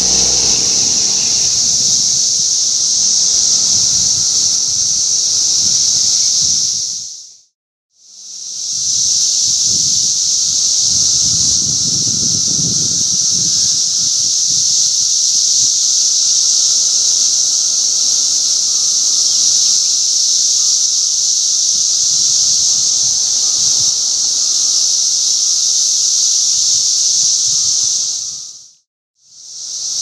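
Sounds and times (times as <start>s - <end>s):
cicadas buzzing: 0.0s - 7.4s, 8.1s - 30.0s
wind rustling leaves: 0.0s - 7.4s, 8.3s - 28.8s.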